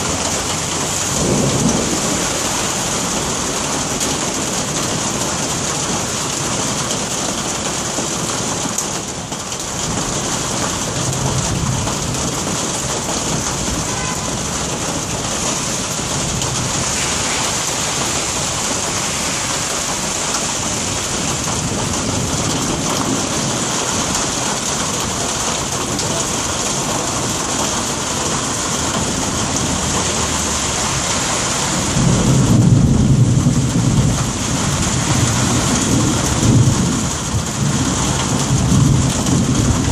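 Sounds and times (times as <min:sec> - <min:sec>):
thunder rumbling: 0:00.0 - 0:06.0, 0:09.9 - 0:39.9
steady rain: 0:00.0 - 0:39.9.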